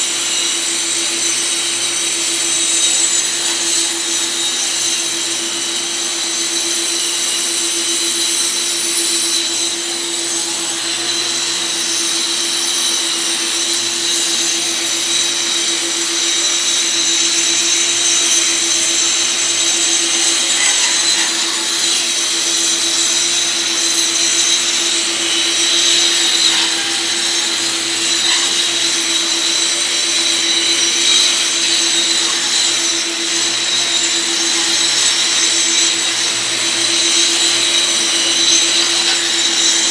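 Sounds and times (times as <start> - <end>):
angle grinder grinding concrete: 0.0 - 39.9.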